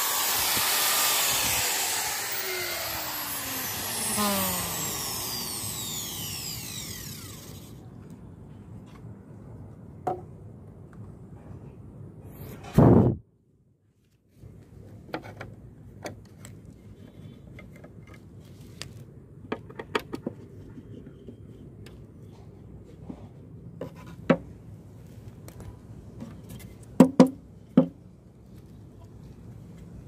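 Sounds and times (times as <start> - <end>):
low outdoor background: 0.0 - 30.0.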